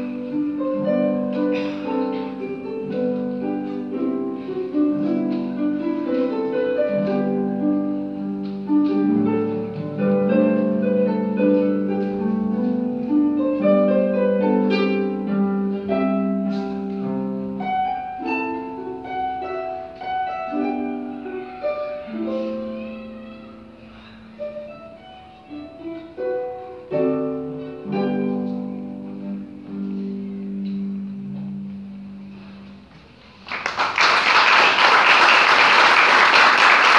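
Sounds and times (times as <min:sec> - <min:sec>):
harp plucked notes and chords: 0:00.0 - 0:32.0.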